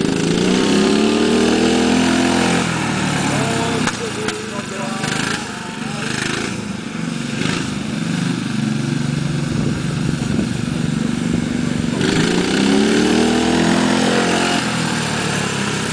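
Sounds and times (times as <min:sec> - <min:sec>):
small petrol engine running: 0:00.0 - 0:15.9.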